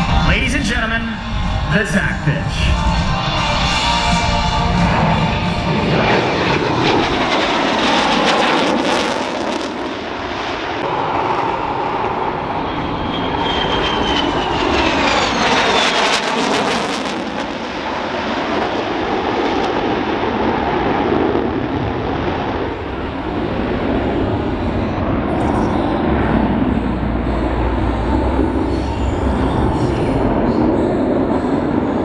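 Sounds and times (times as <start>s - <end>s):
jet afterburner roar: 0.0s - 32.0s
jet engine whine falling in pitch: 0.0s - 32.0s
loud jet roar: 0.0s - 32.0s.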